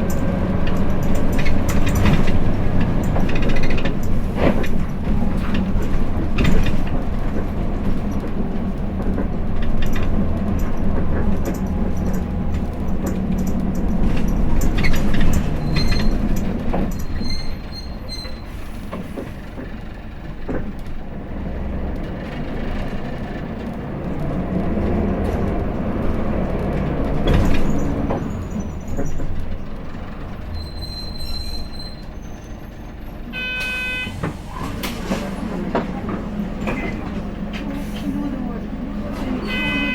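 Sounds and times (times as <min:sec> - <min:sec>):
bus diesel engine hum: 0:00.0 - 0:39.9
rattles and clicks of bus body: 0:00.0 - 0:39.9.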